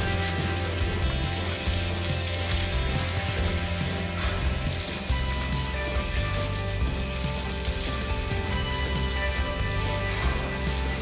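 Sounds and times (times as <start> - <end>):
background music: 0.0 - 11.0
hose spraying water: 0.0 - 11.0.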